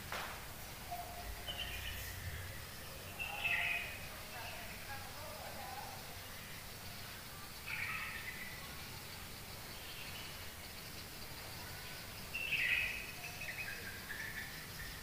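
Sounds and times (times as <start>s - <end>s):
birds chirping: 0.0s - 15.0s
faint background noise: 0.0s - 15.0s.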